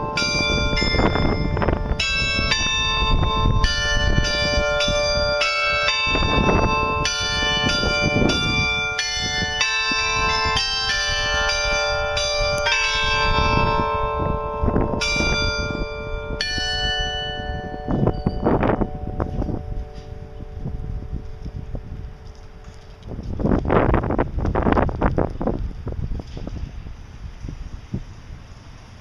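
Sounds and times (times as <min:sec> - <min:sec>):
clock tower bells playing melody: 0:00.0 - 0:24.2
wind rumbling on microphone: 0:00.0 - 0:29.0.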